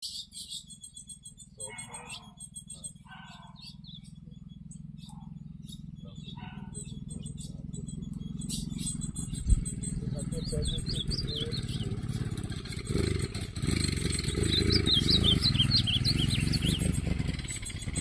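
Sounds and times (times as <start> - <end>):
birds chirping: 0.0 - 18.0
motorcycle engine idling: 0.0 - 18.0.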